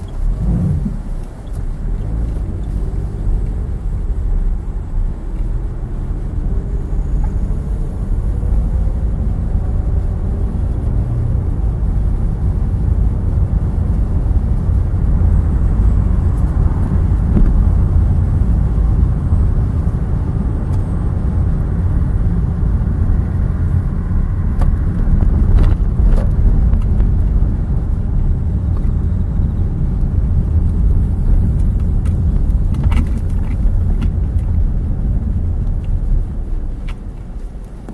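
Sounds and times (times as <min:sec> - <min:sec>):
car driving rumble: 0:00.0 - 0:37.9.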